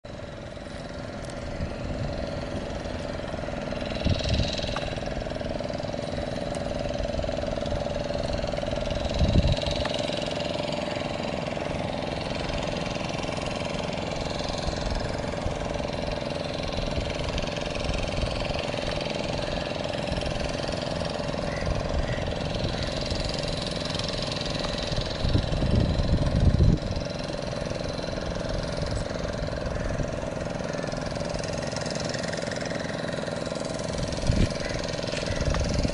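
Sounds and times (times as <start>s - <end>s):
engine running with low rumble: 0.0s - 35.9s.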